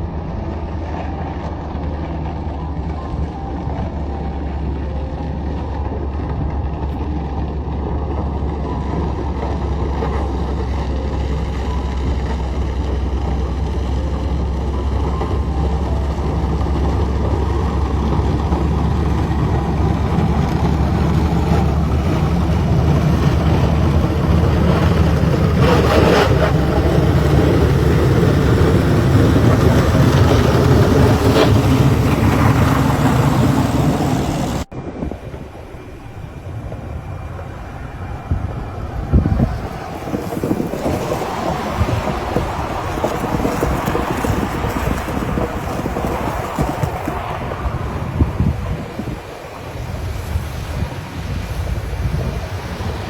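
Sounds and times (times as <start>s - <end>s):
heavy machine engine droning: 0.0s - 53.0s
low rumble: 0.0s - 53.0s.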